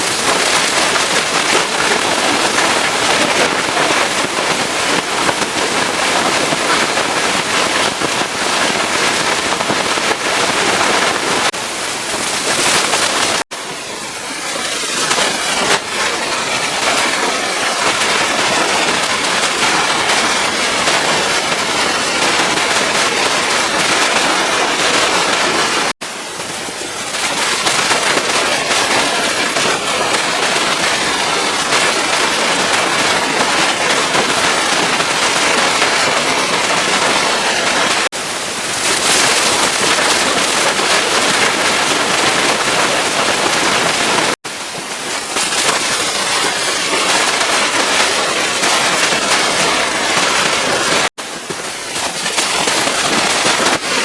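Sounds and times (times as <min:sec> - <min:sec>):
pressure washer spraying: 0:00.0 - 0:54.0.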